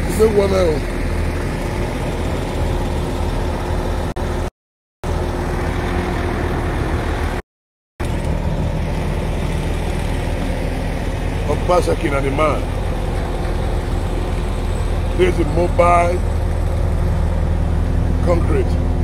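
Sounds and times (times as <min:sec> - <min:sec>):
heavy engine humming: 0:00.0 - 0:07.4, 0:08.0 - 0:19.0.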